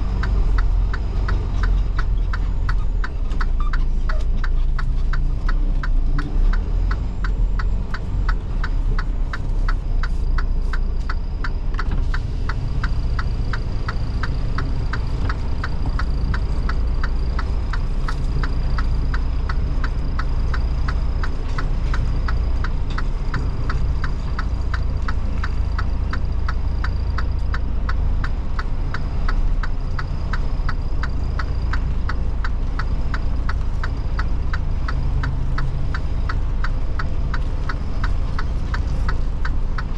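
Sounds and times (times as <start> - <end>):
diesel truck engine rumbling: 0.0 - 39.9
turn signal clicking: 0.0 - 39.9.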